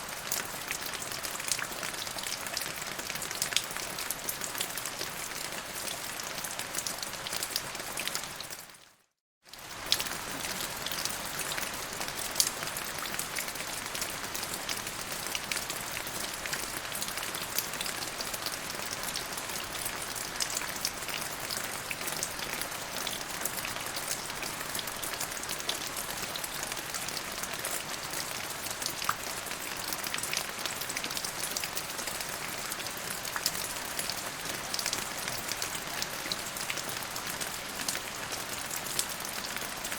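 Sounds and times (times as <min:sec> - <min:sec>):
rain falling on surfaces: 0:00.0 - 0:39.9.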